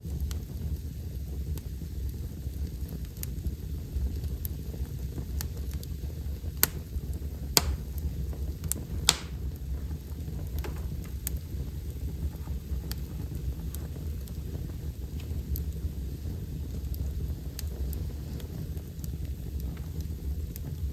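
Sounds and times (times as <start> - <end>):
fire popping: 0.0 - 20.9
wood fire crackling: 0.0 - 20.9.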